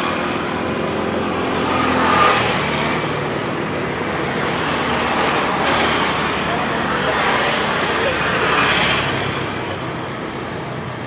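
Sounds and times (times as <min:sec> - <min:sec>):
passing cars: 0:00.0 - 0:11.0.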